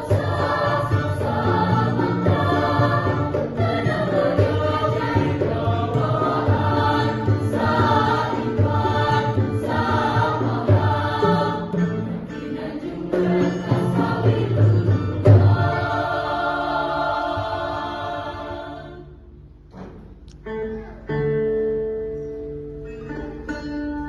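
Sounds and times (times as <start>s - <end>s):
children's choir singing: 0.0s - 19.3s.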